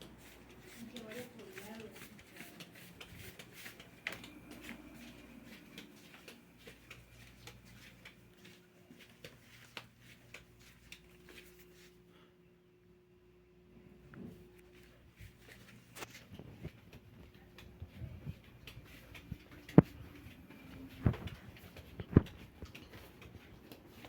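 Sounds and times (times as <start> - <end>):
light clicks and taps: 0.0 - 11.9, 14.2 - 24.0
faint steady hum: 0.0 - 24.0.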